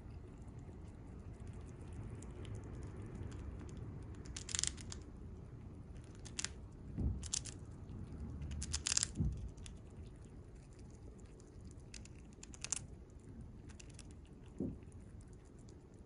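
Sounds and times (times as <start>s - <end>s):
chipmunk crunching food: 0.0s - 16.0s.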